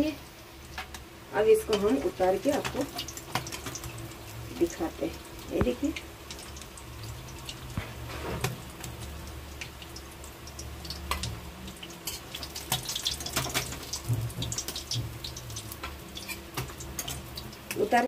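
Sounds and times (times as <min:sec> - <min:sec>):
hot oil crackling and spitting: 0:00.0 - 0:18.0.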